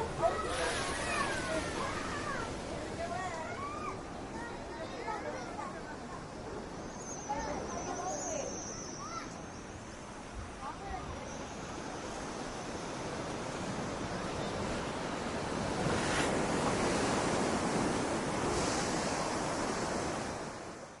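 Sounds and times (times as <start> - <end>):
ocean waves washing in: 0.0 - 7.8, 9.0 - 21.0.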